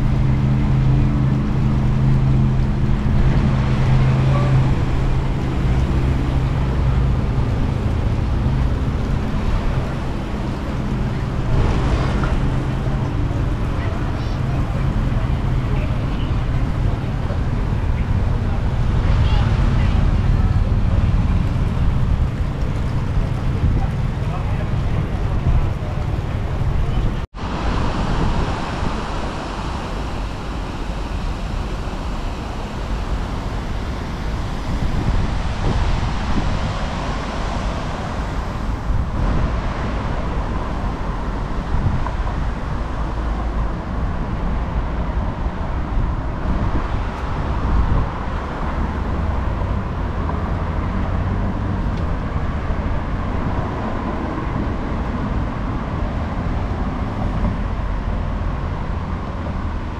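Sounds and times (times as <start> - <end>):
vehicle rumble with hiss: 0.0 - 59.9.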